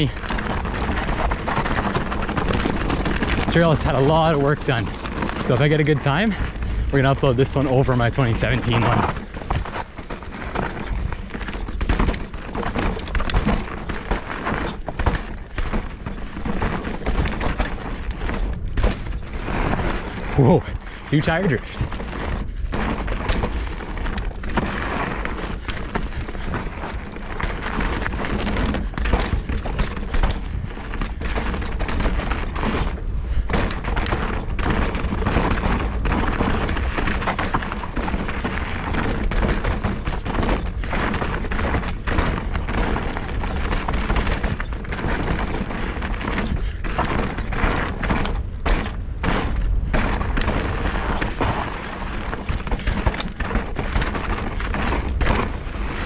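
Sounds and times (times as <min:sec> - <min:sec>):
bike thuds and rattles: 0:00.0 - 0:56.0
bike tyre roar: 0:00.0 - 0:56.0
wind buffeting camera: 0:00.0 - 0:56.0.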